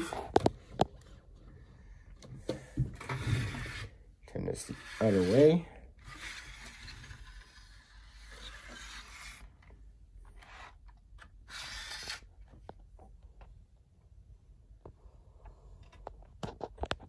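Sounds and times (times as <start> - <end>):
plastic rubbing and scraping: 0.0 - 13.5, 15.8 - 17.0.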